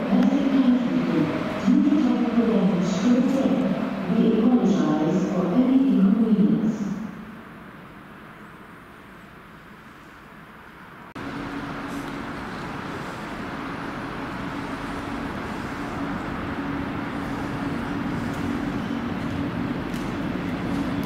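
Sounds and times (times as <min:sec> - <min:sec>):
train rumbling slowly: 0:00.0 - 0:21.0.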